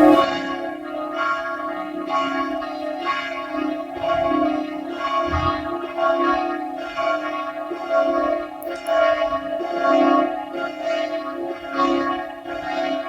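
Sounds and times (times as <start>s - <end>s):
church bells pealing: 0.0s - 13.0s.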